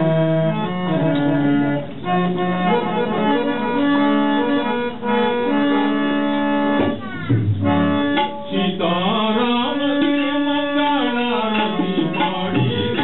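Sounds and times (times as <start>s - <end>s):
harmonium slow melody: 0.0s - 13.0s.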